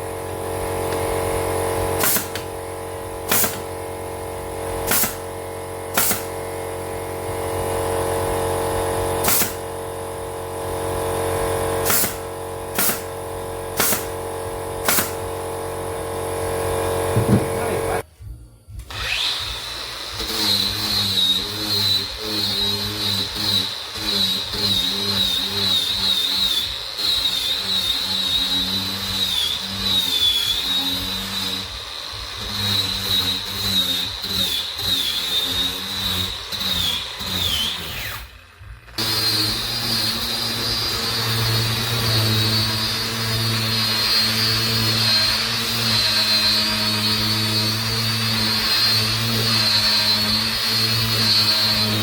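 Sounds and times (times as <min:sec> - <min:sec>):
power tool motor whining: 0:00.0 - 0:18.0, 0:18.8 - 0:52.0.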